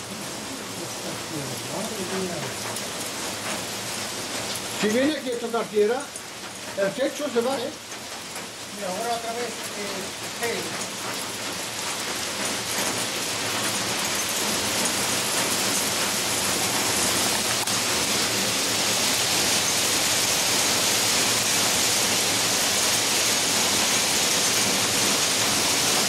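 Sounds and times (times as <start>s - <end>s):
torrential rain pouring: 0.0s - 26.0s.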